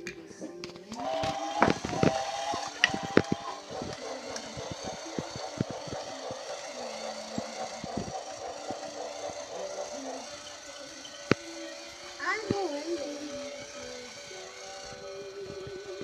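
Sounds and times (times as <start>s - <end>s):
toy train motor hum: 0.0s - 16.0s
wheels clicking over rail joints: 0.0s - 16.0s.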